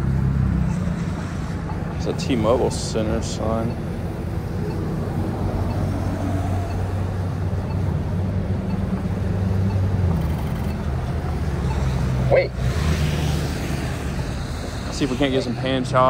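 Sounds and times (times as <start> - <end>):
traffic engine hum: 0.0 - 16.0.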